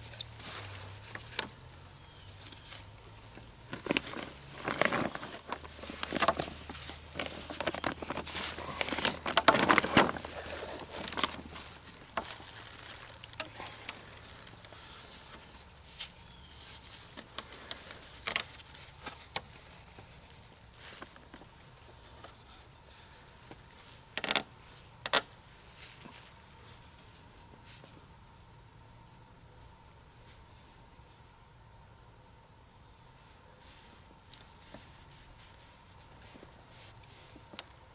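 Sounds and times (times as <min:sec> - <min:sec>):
cord rustling and rubbing on poles: 0:00.0 - 0:28.2, 0:33.0 - 0:37.9.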